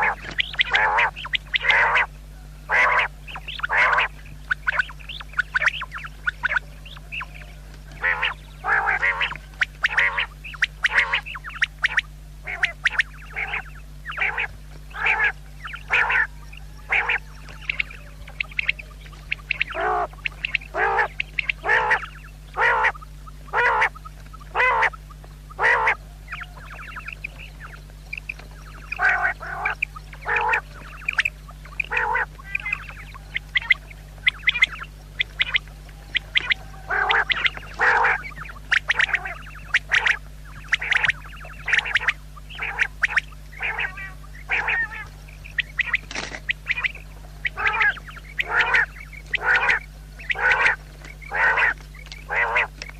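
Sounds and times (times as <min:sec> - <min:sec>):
quail calling: 0:00.0 - 0:52.9.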